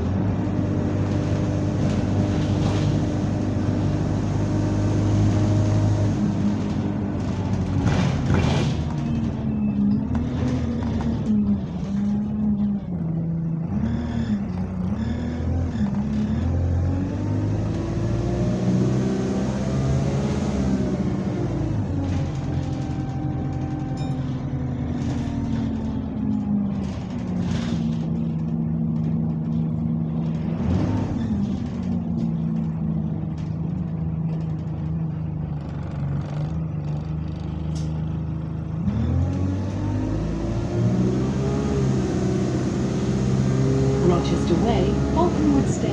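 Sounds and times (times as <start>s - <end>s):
bus diesel engine moaning: 0.0s - 45.9s.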